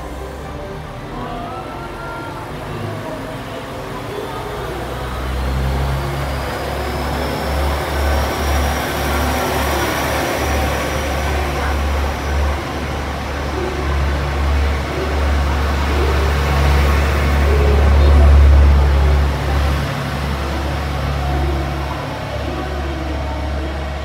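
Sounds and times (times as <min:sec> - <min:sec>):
diesel train engine rumble: 0:00.0 - 0:24.0.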